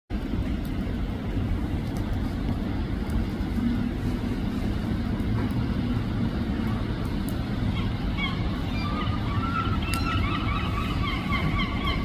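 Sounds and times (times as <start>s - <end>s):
electric locomotive rumbling: 0.1s - 12.0s.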